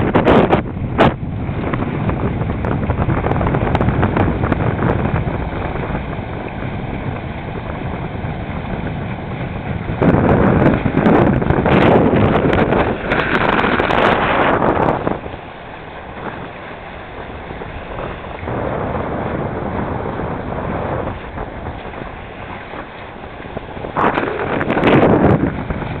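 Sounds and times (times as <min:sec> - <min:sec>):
water rushing along hulls: 0:00.0 - 0:26.0
wind buffeting microphone: 0:00.0 - 0:26.0.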